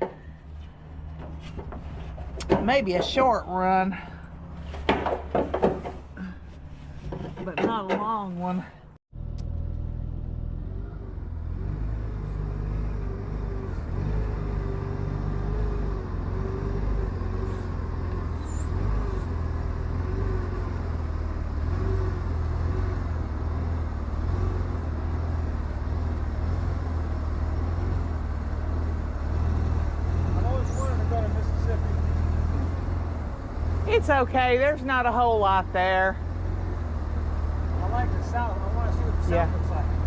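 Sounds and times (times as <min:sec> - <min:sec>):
truck engine rumbling: 0:00.0 - 0:40.0.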